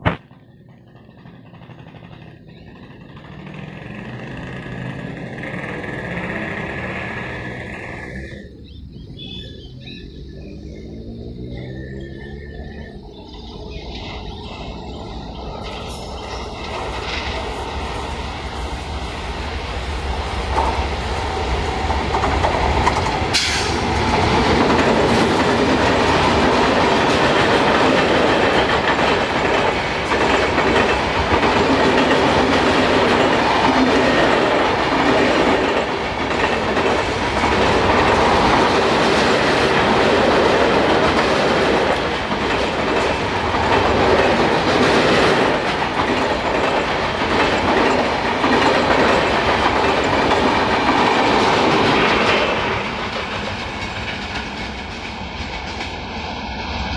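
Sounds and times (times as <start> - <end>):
wheels clattering over rail joints: 0.0 - 19.4, 20.0 - 56.0
locomotive passing: 0.0 - 56.9
train coaches rumbling: 0.0 - 56.9.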